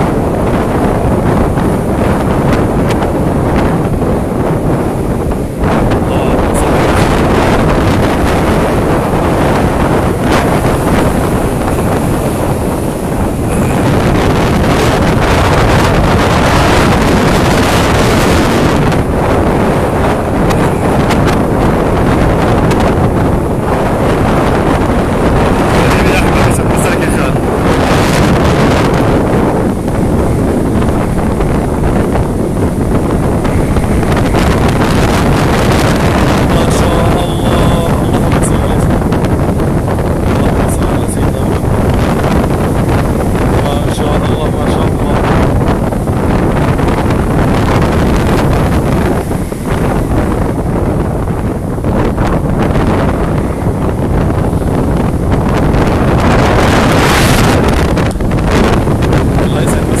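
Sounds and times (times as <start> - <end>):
breaking surf: 0.0 - 60.0
storm wind buffeting microphone: 0.0 - 60.0.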